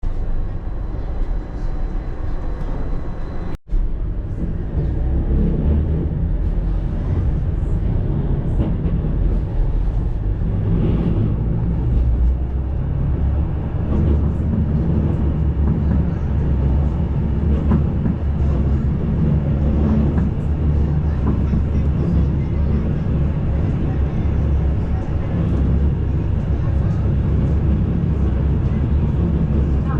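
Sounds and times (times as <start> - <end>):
tram rumbling on rails: 0.0 - 29.9.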